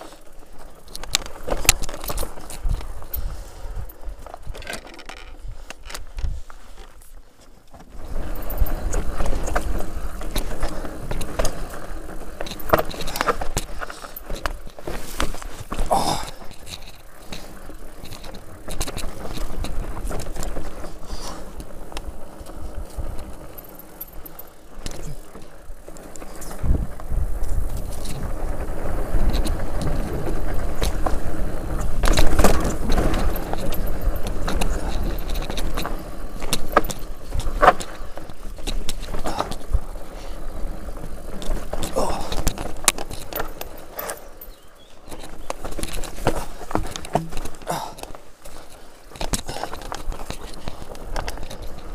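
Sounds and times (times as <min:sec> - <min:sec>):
tyres crunching over gravel: 0:00.0 - 0:51.9
bike knocks and clatters: 0:00.2 - 0:03.2, 0:07.6 - 0:51.9.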